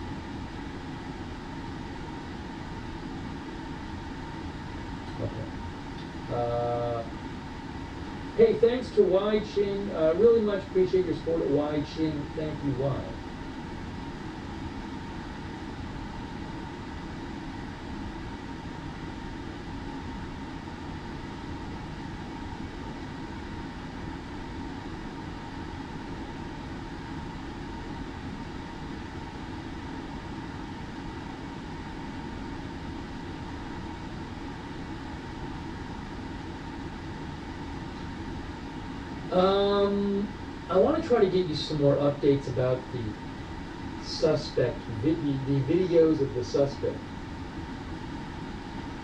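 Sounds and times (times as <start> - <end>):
faint constant hum: 0.0 - 49.0.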